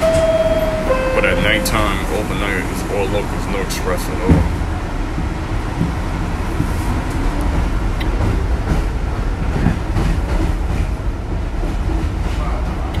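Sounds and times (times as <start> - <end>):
subway wheels rumbling on rail: 0.0 - 13.0.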